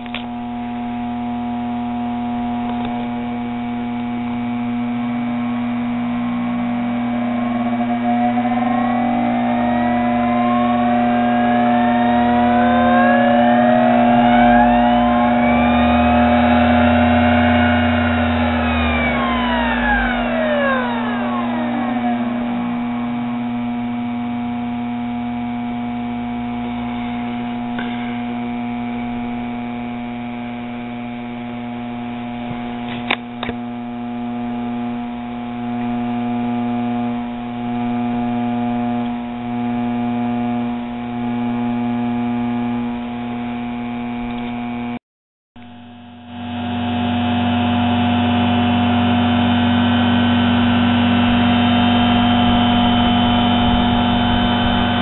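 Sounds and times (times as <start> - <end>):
lathe motor hum: 0.0 - 44.9, 45.9 - 55.0.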